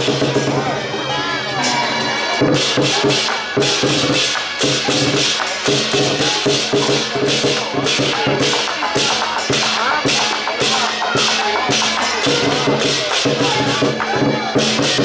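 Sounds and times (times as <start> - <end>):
big drum beating: 0.0 - 15.0
cymbals crashing: 0.0 - 15.0.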